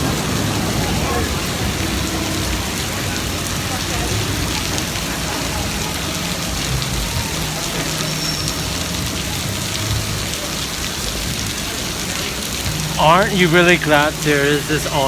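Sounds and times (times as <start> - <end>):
heavy rain pouring on street: 0.0 - 15.0.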